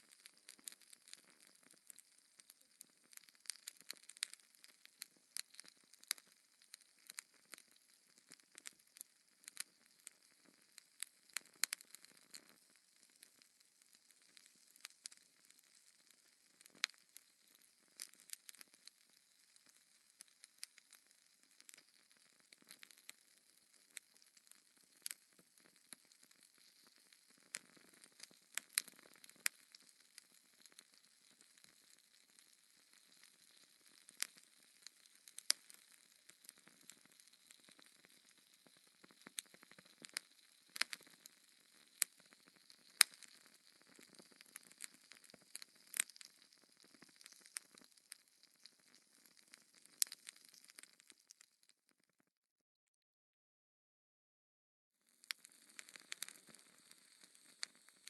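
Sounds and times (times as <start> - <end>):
wood fire crackling: 0.0 - 51.7, 55.2 - 58.0
fire popping and snapping: 0.0 - 51.8, 55.2 - 58.0.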